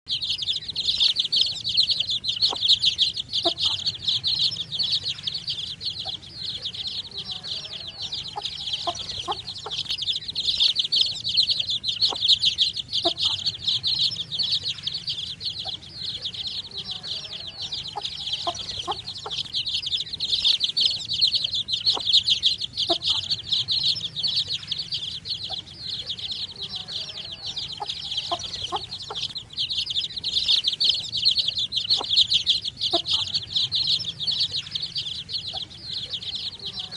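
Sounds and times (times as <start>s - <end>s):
baby chicks peeping: 0.0s - 36.9s.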